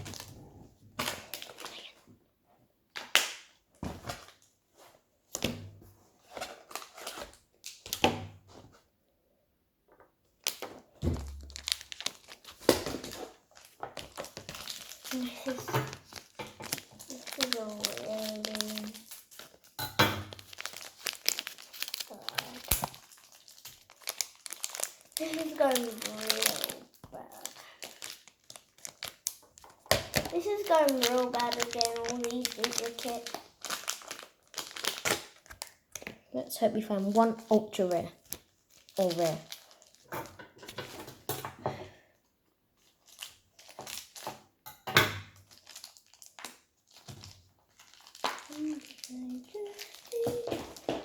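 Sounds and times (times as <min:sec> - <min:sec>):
plastic packaging crinkling: 0:01.0 - 0:02.0, 0:06.2 - 0:08.0, 0:10.4 - 0:41.2, 0:42.8 - 0:44.4, 0:45.3 - 0:51.0.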